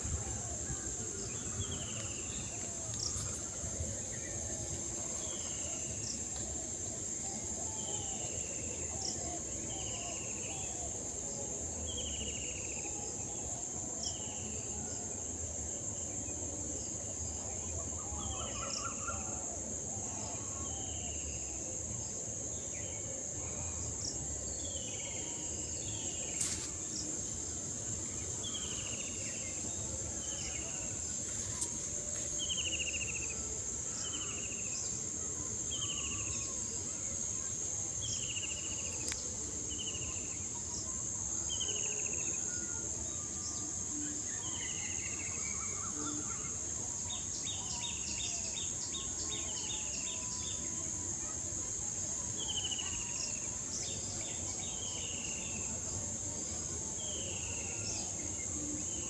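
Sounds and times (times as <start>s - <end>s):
low background noise: 0.0s - 59.0s.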